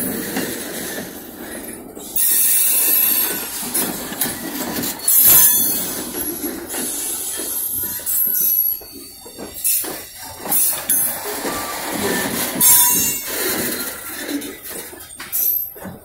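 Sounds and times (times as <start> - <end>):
freight train rumbling: 0.0 - 16.0
train wheels squealing on rail: 0.0 - 16.0
wheels knocking: 0.0 - 16.0.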